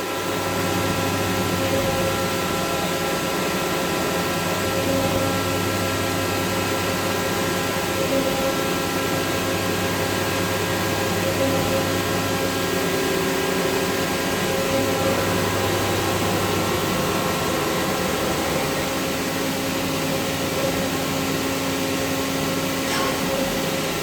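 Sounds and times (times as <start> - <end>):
machine humming and whining: 0.0 - 24.0.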